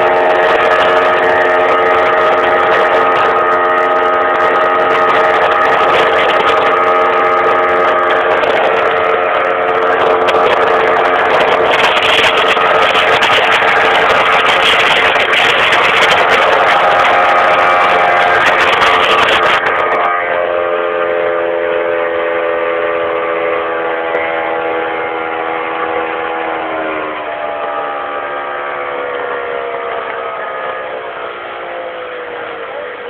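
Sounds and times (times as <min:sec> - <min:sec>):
boat motor humming: 0:00.0 - 0:33.0
loud rush of noise: 0:00.0 - 0:33.0.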